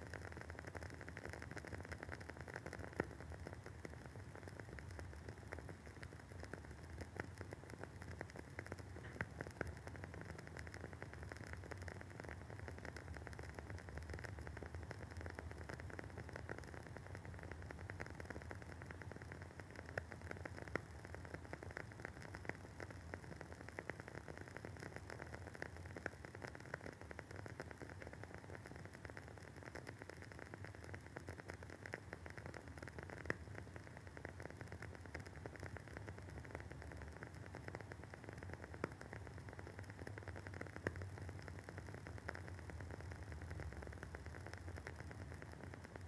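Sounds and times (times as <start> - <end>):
candle wick crackling: 0.3 - 46.0.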